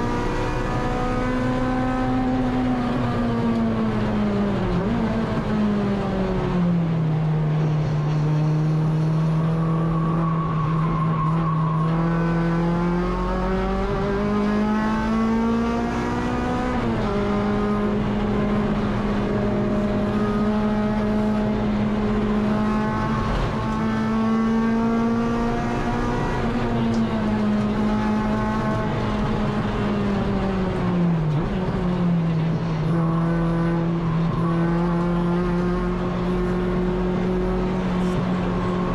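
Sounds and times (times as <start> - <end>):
race car engine revving high: 0.0 - 6.6, 8.2 - 38.9.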